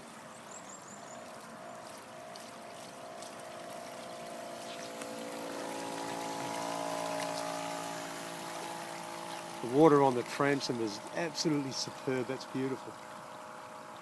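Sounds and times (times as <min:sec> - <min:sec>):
rushing water: 0:00.0 - 0:14.0
model boat motor whining: 0:02.6 - 0:14.0.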